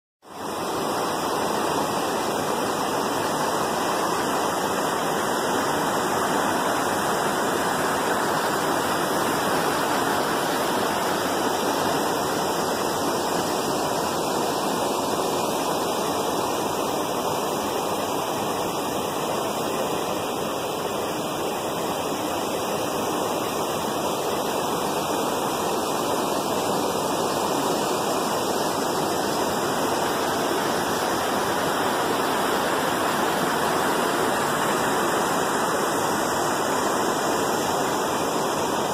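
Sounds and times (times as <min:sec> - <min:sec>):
rushing water hiss: 0:00.2 - 0:38.9.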